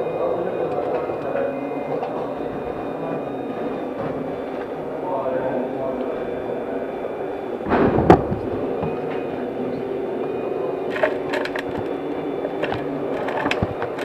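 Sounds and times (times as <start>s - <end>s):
hydraulics whining: 0.0s - 14.0s.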